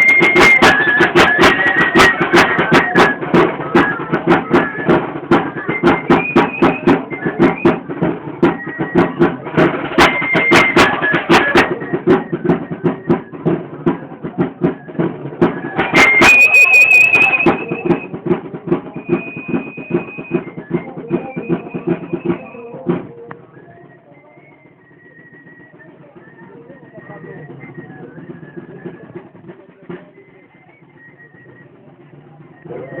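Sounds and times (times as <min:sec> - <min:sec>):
high-pitched flute melody: 0:00.0 - 0:18.2, 0:18.8 - 0:33.0
rapid drumbeats: 0:00.0 - 0:33.0.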